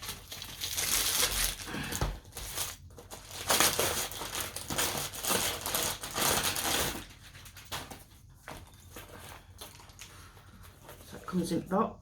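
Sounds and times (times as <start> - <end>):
packaging crinkling and rustling: 0.0 - 11.7.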